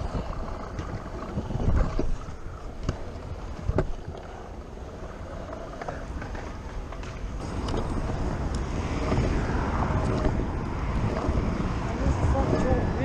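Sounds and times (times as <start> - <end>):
wind buffeting microphone: 0.0 - 5.5, 7.2 - 13.0
scooter wheels rolling on concrete: 0.0 - 13.0.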